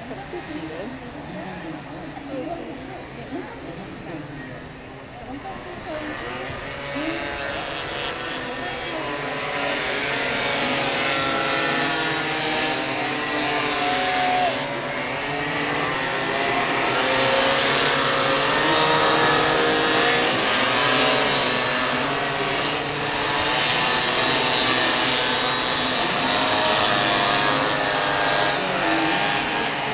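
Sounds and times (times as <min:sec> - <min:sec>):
racing scooter engines buzzing: 0:00.0 - 0:29.9.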